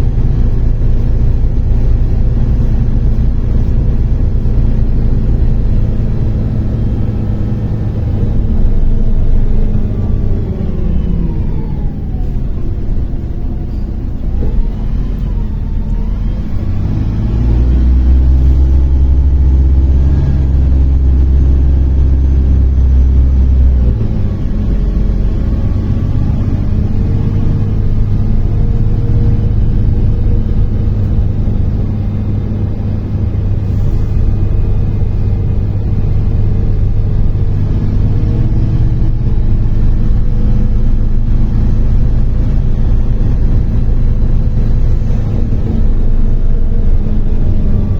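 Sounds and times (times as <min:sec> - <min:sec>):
bus engine rumble inside cabin: 0:00.0 - 0:47.9
drivetrain whine gliding in pitch: 0:00.0 - 0:47.9.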